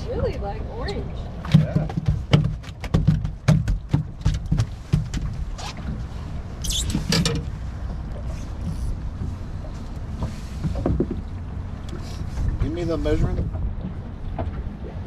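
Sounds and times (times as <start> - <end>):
fish flopping on boat deck: 1.4 - 15.0.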